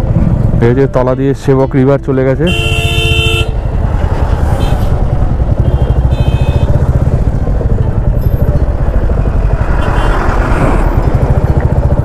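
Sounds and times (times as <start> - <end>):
motorcycle engine running: 0.0 - 1.4, 2.5 - 12.0.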